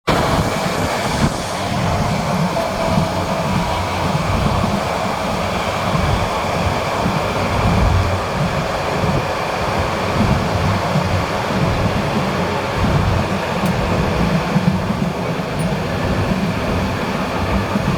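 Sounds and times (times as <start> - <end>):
train rumbling on rails: 0.0 - 17.9.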